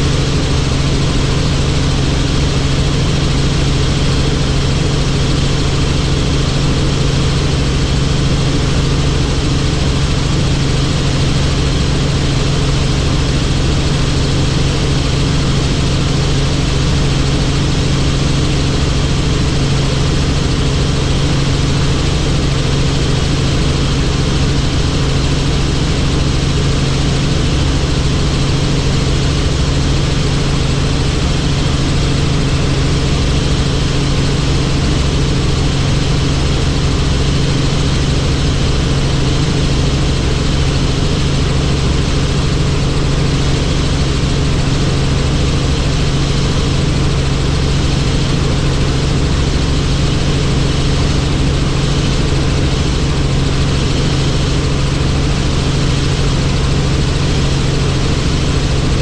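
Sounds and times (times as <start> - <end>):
helicopter drone: 0.0 - 59.0.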